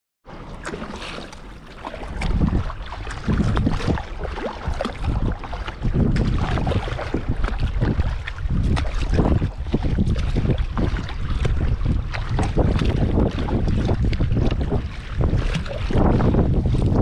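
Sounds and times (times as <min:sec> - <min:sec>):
paddle splashing in water: 0:00.3 - 0:17.0
wind rumbling on microphone: 0:01.2 - 0:17.0.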